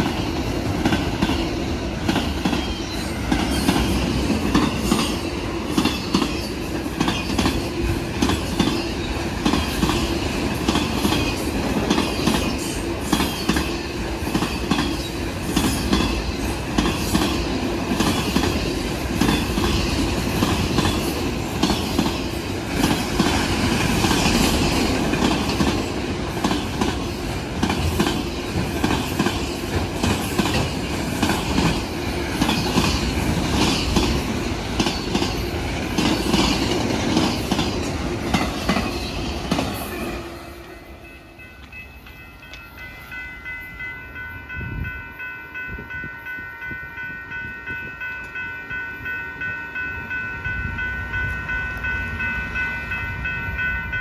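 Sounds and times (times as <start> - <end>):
steel wheels rolling on rail: 0.0 - 54.0.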